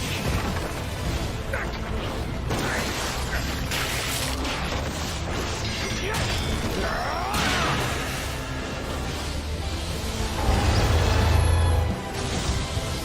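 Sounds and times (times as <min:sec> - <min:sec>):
dramatic music: 0:00.0 - 0:13.0.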